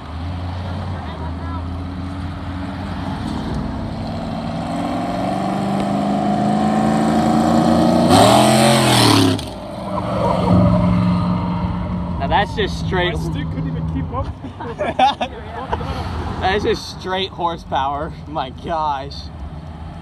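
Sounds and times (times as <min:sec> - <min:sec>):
car accelerating and passing: 0:00.0 - 0:14.4, 0:15.4 - 0:20.0
other vehicles' engine noise: 0:00.0 - 0:20.0.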